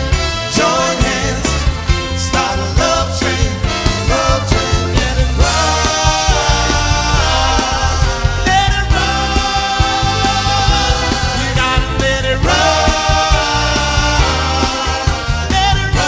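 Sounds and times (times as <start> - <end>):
band playing soul music: 0.0 - 16.0.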